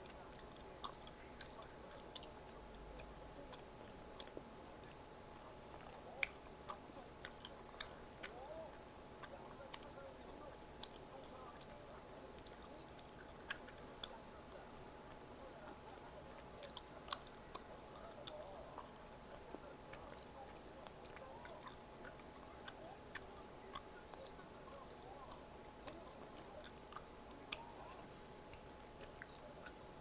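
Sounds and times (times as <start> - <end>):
chewing food: 0.0 - 30.0.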